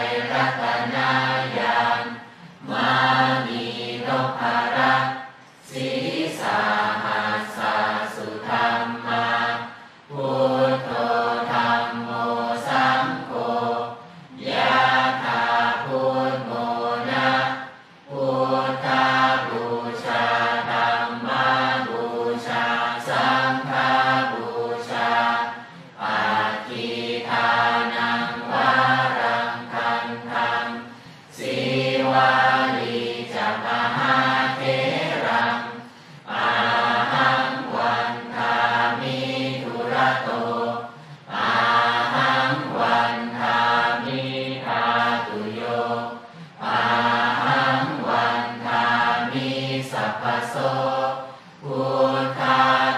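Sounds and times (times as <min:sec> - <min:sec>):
group chanting in unison: 0:00.0 - 0:52.9.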